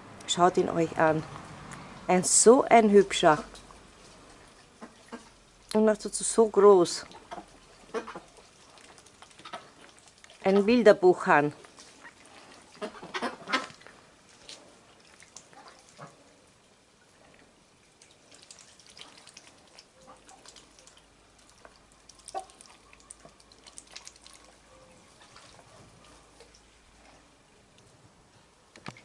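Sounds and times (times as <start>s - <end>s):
birds splashing in water: 3.0s - 6.0s, 6.6s - 26.8s.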